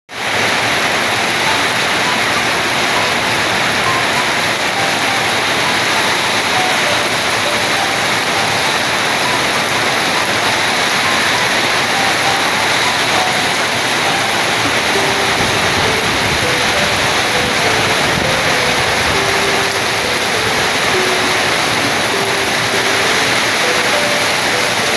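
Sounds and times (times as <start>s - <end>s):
rain falling: 0.1s - 24.9s
strong wind: 0.1s - 24.9s.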